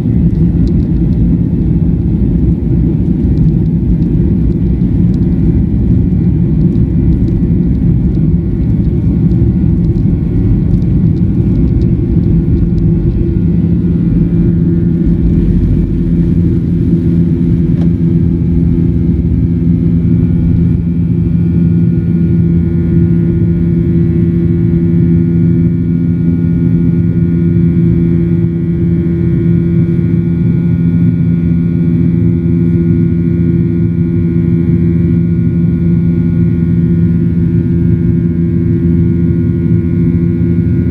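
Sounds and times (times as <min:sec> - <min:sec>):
high steady engine tones: 0:00.0 - 0:40.9
jet engines low rumble: 0:00.0 - 0:40.9.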